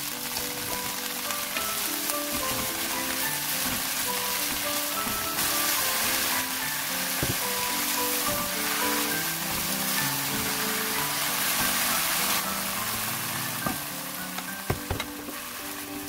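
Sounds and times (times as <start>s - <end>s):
background music: 0.0s - 16.0s
vegetables sizzling in a frying pan: 0.0s - 16.0s.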